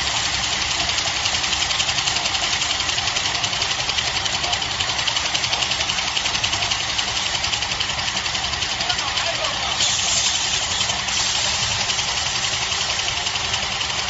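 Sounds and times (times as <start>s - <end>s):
band saw machine running: 0.0s - 14.0s.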